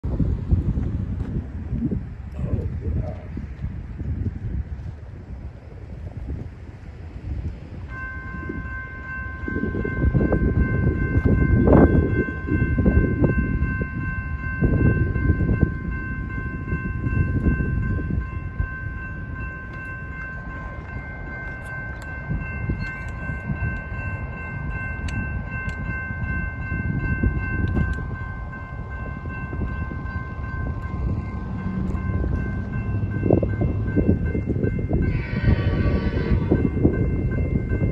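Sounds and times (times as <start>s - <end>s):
wind on microphone: 0.0s - 37.9s
crossing warning bells ringing: 7.0s - 37.9s.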